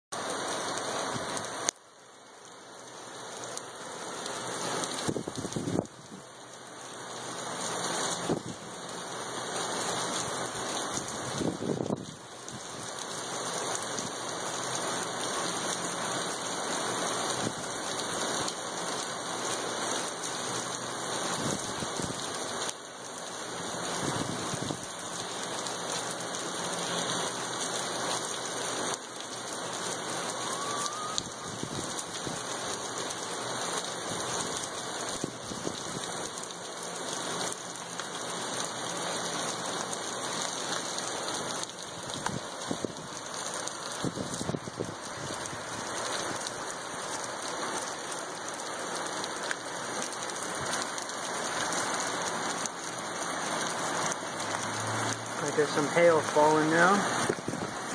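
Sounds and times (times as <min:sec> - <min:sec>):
heavy rain: 0:00.1 - 0:57.9.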